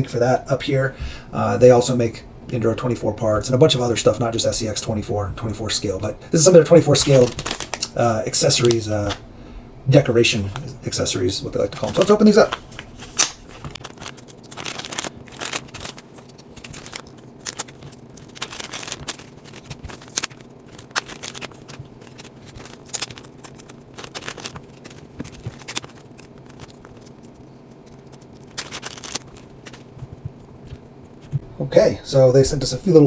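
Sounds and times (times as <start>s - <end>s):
packaging rustling and crinkling: 2.8s - 31.4s.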